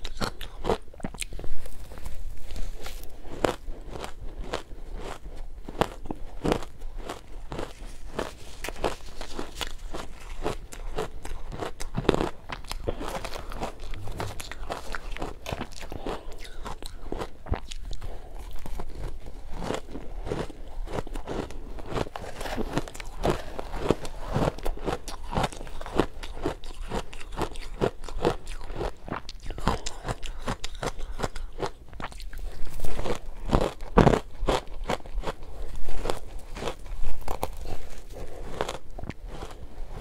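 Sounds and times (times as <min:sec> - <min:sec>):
crunching and chewing ice: 0:00.0 - 0:40.0.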